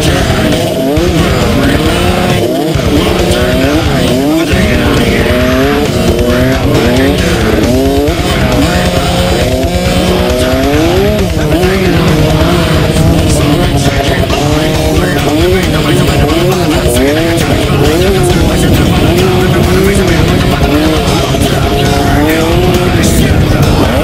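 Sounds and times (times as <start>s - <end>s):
two-stroke motocross engines revving: 0.0s - 24.0s.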